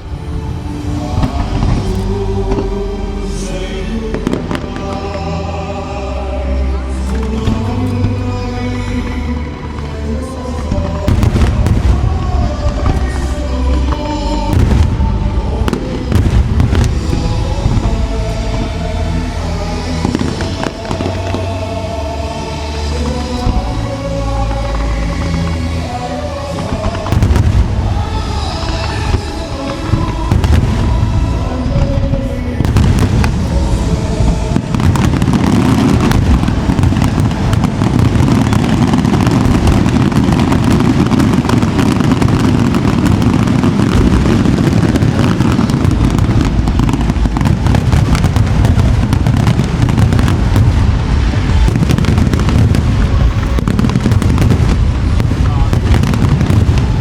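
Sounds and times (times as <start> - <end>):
fireworks bursting and crackling: 0.0 - 57.0
music: 0.0 - 57.0.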